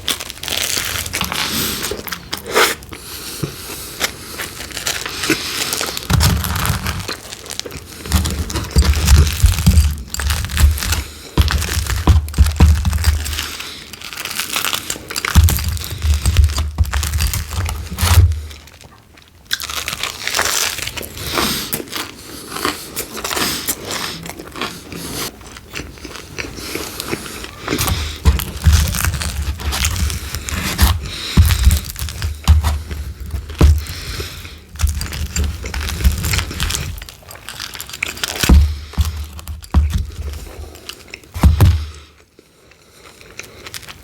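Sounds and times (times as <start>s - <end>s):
crunchy crust being bitten: 0.0s - 44.0s
wet chewing: 0.0s - 44.0s.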